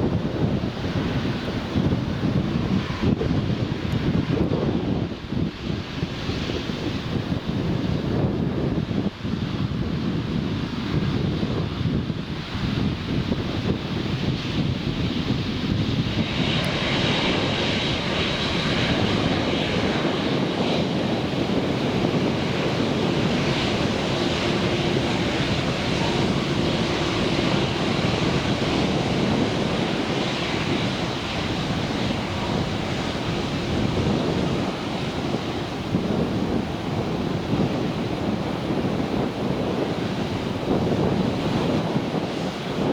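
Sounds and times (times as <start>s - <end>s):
jet engine high whine: 0.0s - 42.9s
jet engines rumbling: 0.0s - 42.9s.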